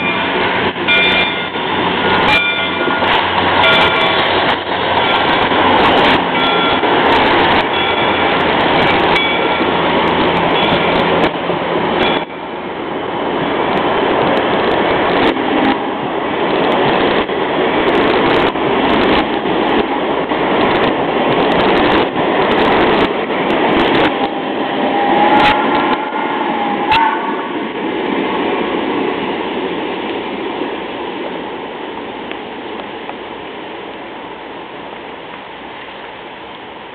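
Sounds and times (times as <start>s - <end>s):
train wheels rumbling and clicking: 0.0s - 36.9s.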